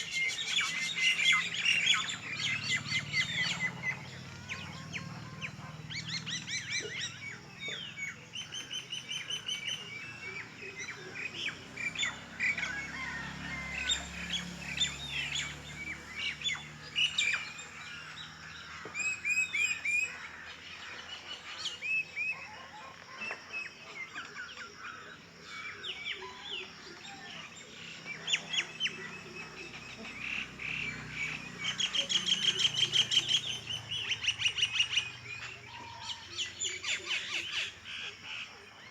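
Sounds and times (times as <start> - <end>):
many birds chirping and singing: 0.0 - 38.9.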